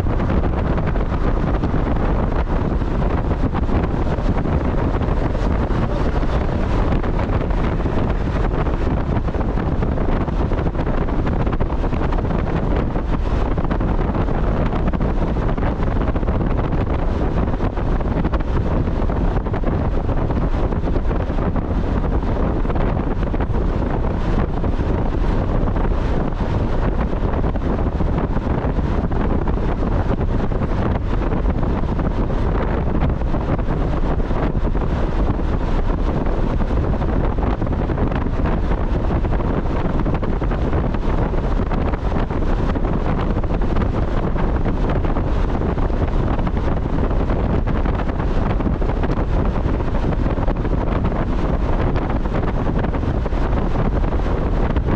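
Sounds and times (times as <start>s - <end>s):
car road and engine noise: 0.0s - 54.9s
wind rushing over microphone: 0.0s - 54.9s.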